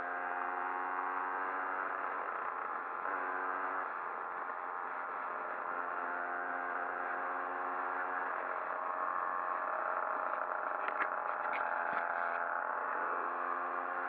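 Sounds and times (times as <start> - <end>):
moped engine running: 0.1 - 14.0.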